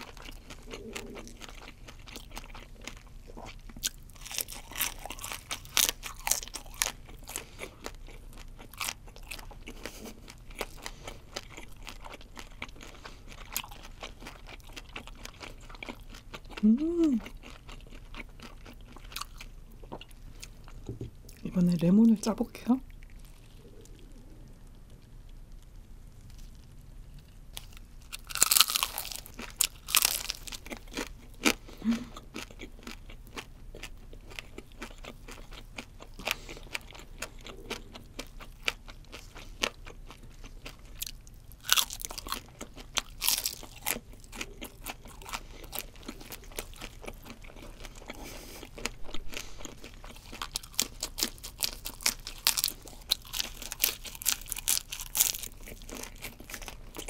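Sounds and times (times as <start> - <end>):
crunching and chewing fried food: 0.0 - 57.0.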